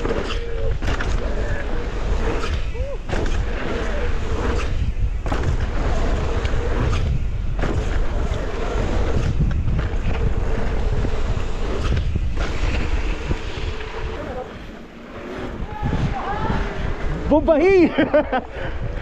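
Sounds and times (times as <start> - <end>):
bike rattling: 0.0 - 19.0
tyres rolling on dirt: 0.0 - 19.0
wind buffeting microphone: 0.0 - 19.0.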